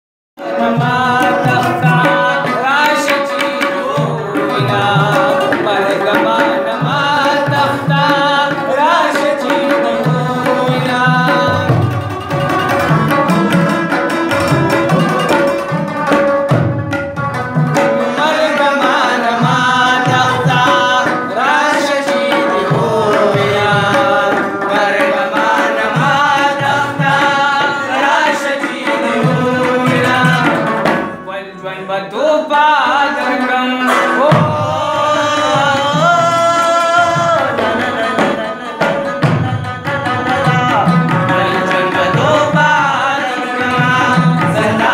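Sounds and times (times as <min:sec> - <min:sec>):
hand drum beating: 0:00.4 - 0:31.3, 0:33.9 - 0:44.9.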